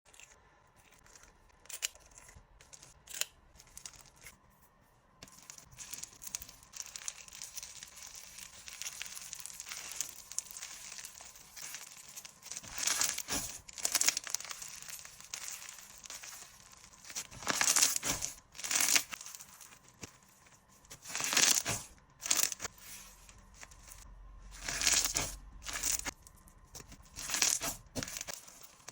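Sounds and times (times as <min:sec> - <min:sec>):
slime crackling and crunching: 0:05.3 - 0:28.9.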